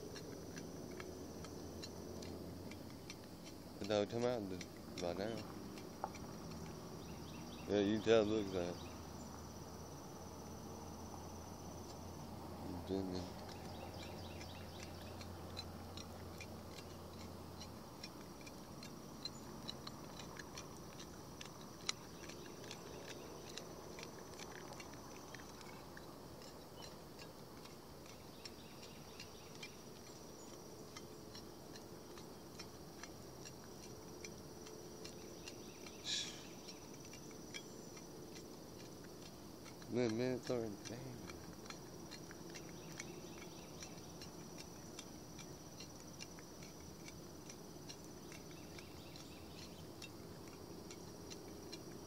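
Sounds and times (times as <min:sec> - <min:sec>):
insect trill: 0:00.0 - 0:52.0
small ticks and clicks: 0:00.0 - 0:52.0.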